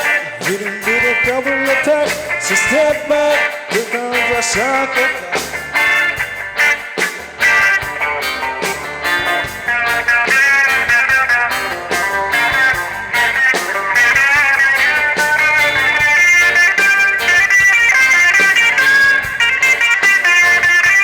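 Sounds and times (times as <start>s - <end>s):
bass and drums: 0.0s - 21.0s
electric guitar lead: 0.0s - 21.0s.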